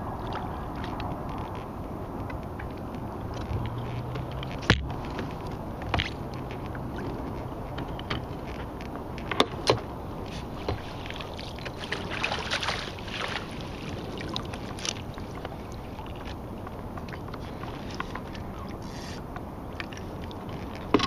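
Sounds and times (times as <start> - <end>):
water and wind noise: 0.0 - 21.0
water splashing and sloshing: 0.0 - 21.0.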